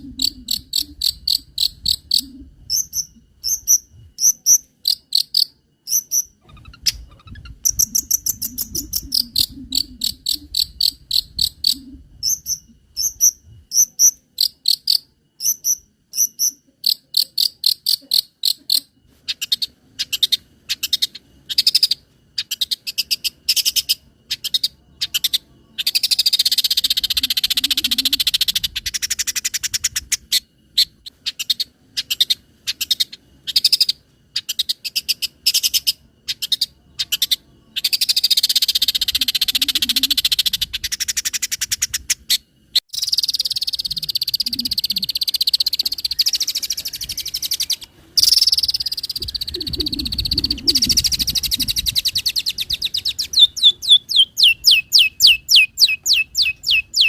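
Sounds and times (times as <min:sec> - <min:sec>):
shrike chattering song: 0:00.0 - 0:57.0.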